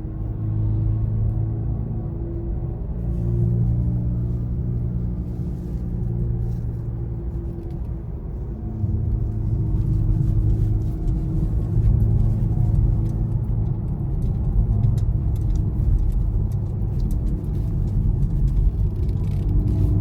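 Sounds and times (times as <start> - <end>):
road and tyre rumble: 0.0 - 20.0.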